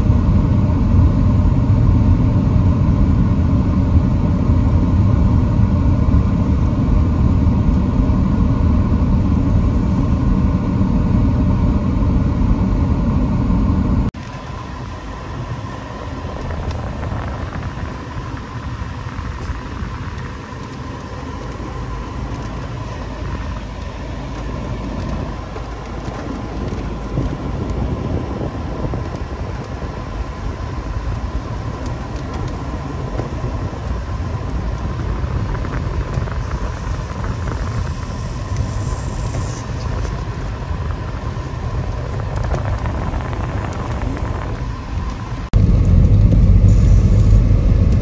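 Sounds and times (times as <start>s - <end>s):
car tyre rumble: 0.0s - 48.0s.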